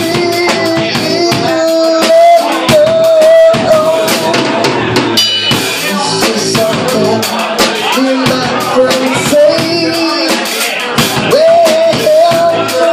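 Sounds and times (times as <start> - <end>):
live rock band playing: 0.0 - 12.9.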